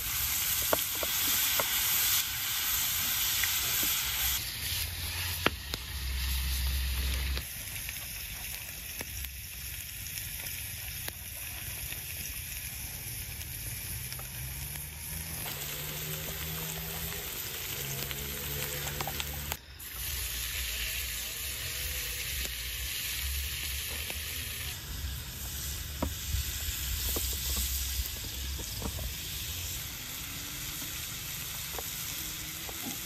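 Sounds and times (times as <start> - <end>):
meat sizzling on a metal pan: 0.0 - 33.0.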